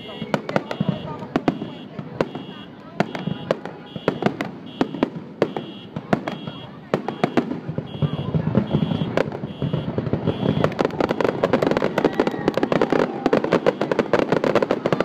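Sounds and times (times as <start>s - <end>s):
fireworks crackling and booming: 0.0s - 15.0s.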